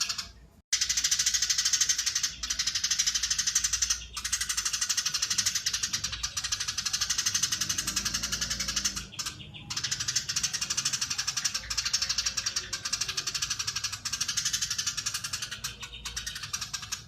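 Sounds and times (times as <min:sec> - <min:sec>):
sparrow chattering call: 0:00.0 - 0:17.0.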